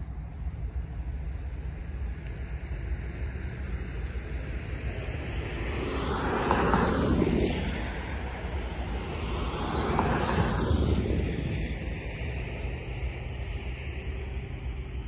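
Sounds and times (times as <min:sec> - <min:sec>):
vehicles passing: 0:02.0 - 0:15.0.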